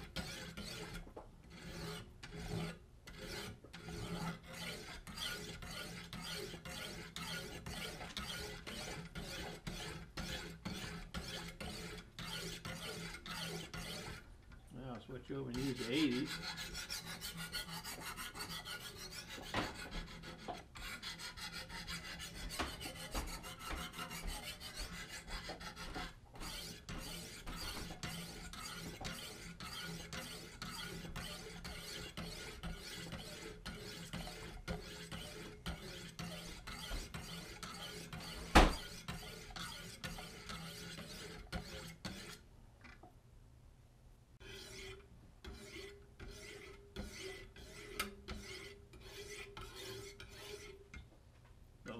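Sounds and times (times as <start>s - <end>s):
sharpening stone scraping blade: 0.2s - 14.2s, 15.5s - 42.4s, 44.4s - 50.8s.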